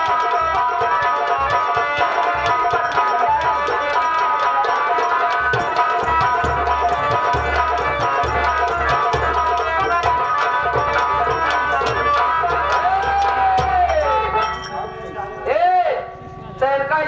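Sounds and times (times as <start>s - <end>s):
rapid dense drumming: 0.0s - 14.5s
sustained melody line: 1.0s - 16.9s.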